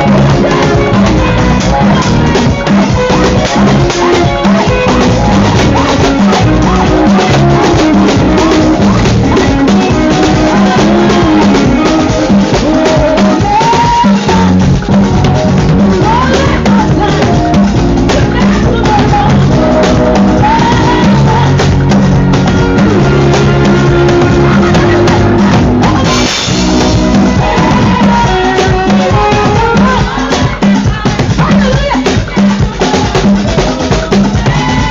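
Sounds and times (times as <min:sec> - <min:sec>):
music with drums and bass: 0:00.0 - 0:34.9
person singing: 0:00.0 - 0:34.9.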